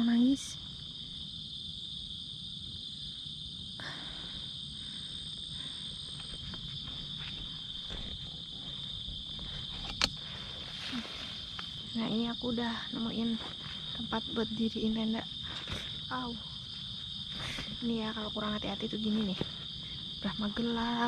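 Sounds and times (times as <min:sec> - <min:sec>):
crickets and night insects chorus: 0:00.0 - 0:21.0
faint scattered crackles: 0:03.8 - 0:21.0.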